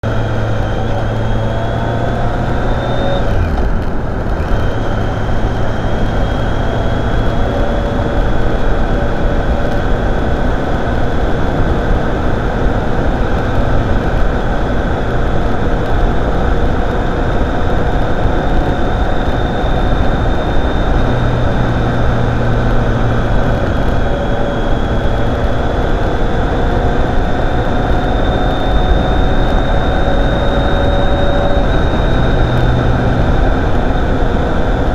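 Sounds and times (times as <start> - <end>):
heavy wind rush: 0.0 - 34.9
motorcycle engine running: 0.0 - 34.9.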